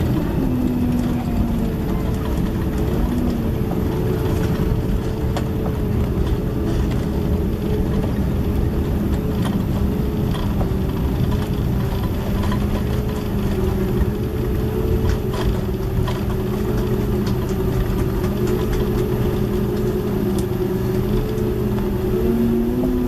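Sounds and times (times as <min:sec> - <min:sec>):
constant hum: 0:00.0 - 0:23.0
jet engines droning in cabin: 0:00.0 - 0:23.0.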